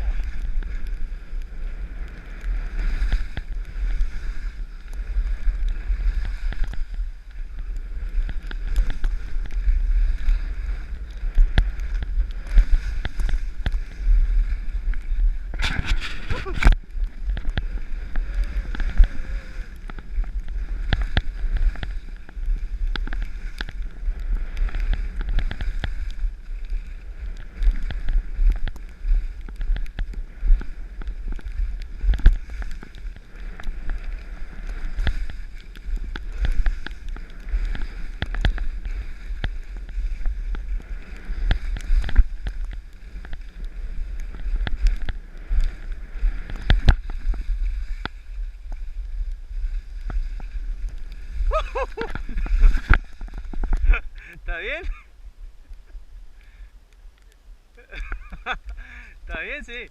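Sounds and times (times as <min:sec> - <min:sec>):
edges scraping over snow: 0:00.0 - 0:54.9
wind buffeting microphone: 0:00.0 - 0:59.9.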